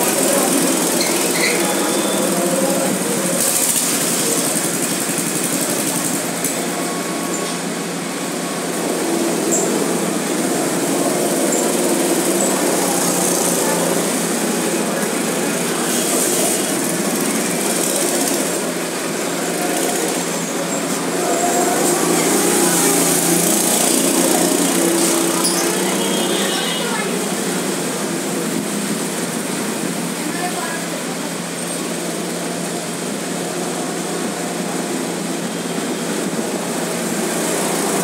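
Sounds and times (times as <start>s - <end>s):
go-kart engines: 0.0s - 38.0s.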